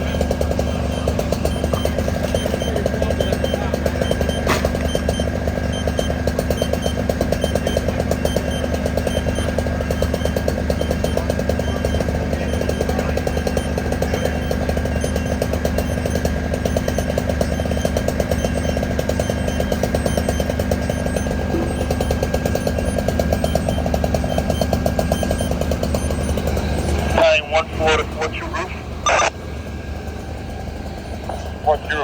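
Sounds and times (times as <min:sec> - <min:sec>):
engine running with high whine: 0:00.0 - 0:32.0.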